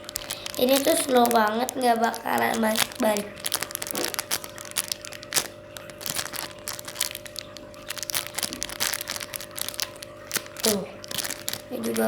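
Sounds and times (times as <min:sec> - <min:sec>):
foam toy crinkling and clicking: 0:00.0 - 0:12.0.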